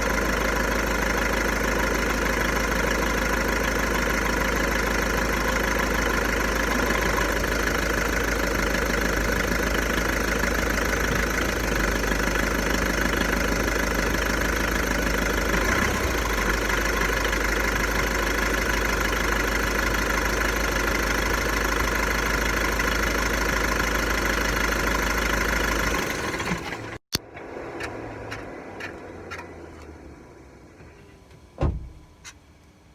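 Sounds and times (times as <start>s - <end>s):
diesel engine idling: 0.0s - 30.8s.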